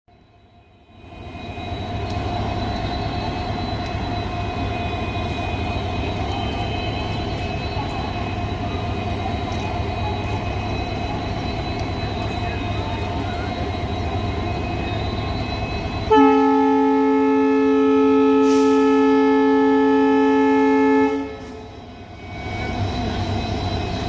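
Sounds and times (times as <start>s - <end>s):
locomotive engine drone: 0.1s - 24.0s.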